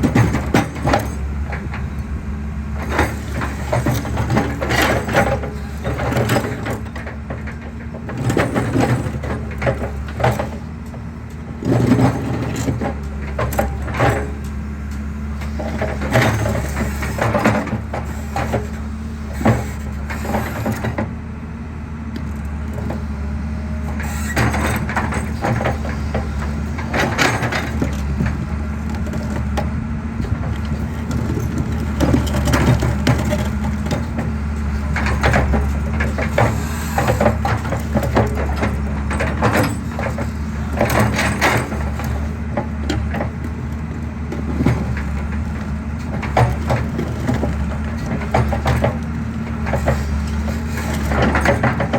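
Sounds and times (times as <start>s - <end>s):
excavator engine running: 0.0s - 51.9s.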